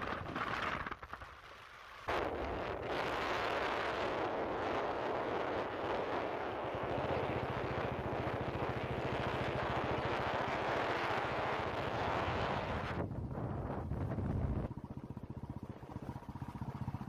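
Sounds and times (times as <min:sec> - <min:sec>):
wind rushing over microphone: 0:00.0 - 0:01.3, 0:02.0 - 0:16.8
motorcycle engine running: 0:02.3 - 0:17.0.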